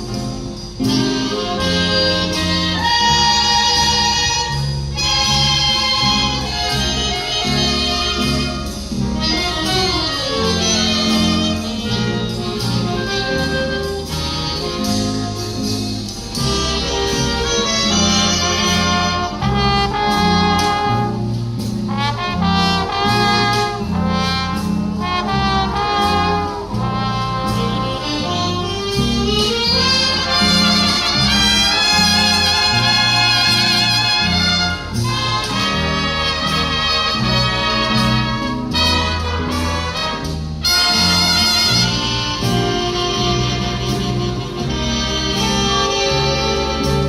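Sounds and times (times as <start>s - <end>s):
big band playing jazz ballad: 0.0s - 47.0s
walking bass line: 0.0s - 47.0s.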